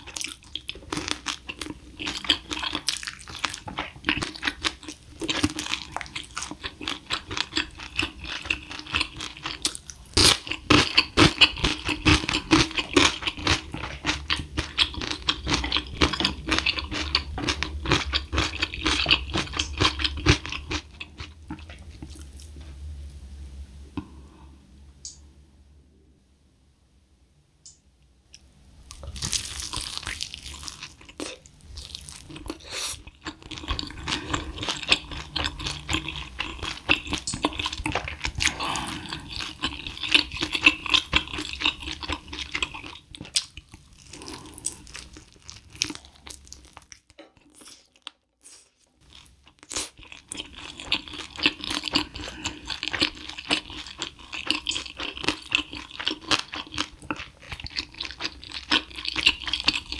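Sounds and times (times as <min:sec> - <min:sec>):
crunching fried chicken: 0:00.0 - 0:22.5, 0:28.9 - 0:59.9.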